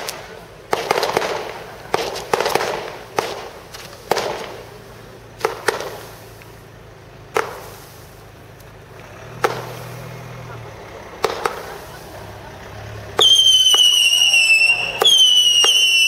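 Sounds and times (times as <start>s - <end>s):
firework shells bursting with bangs: 0.0s - 16.0s.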